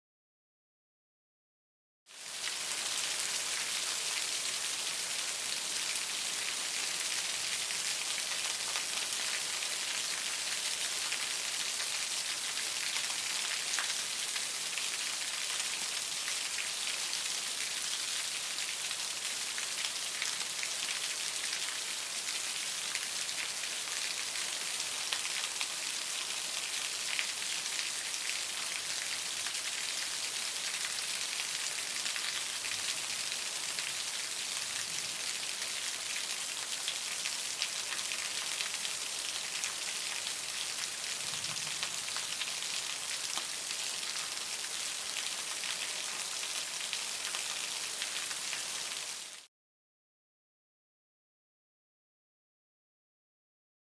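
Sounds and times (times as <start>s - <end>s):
very heavy rain: 2.2s - 49.5s.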